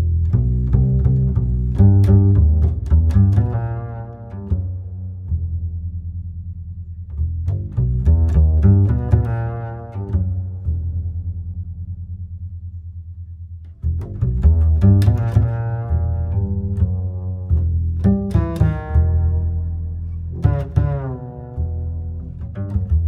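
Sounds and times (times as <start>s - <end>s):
double bass and cello music: 0.0s - 23.0s.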